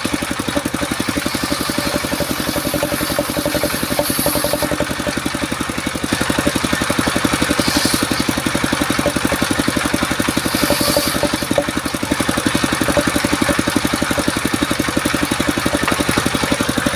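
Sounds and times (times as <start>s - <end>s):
sawmill engine running: 0.0s - 16.9s.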